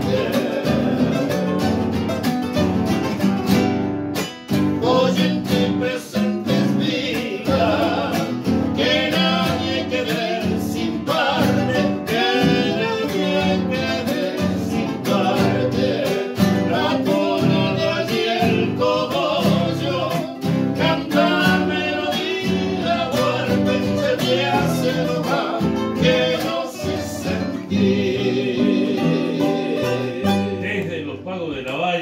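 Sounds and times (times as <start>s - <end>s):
person singing: 0.0s - 1.7s, 4.8s - 31.0s
acoustic guitars strummed and plucked: 0.0s - 31.3s.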